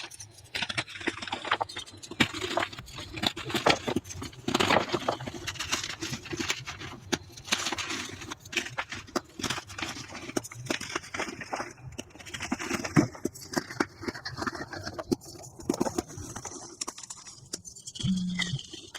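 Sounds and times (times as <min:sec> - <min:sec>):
chalk being crushed: 0:00.0 - 0:18.0.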